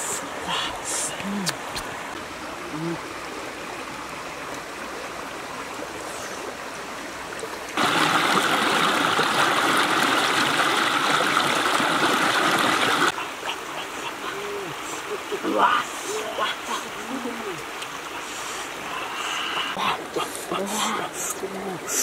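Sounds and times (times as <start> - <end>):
rocky stream flowing: 0.0 - 22.0
water rushing over rocks: 0.0 - 22.0.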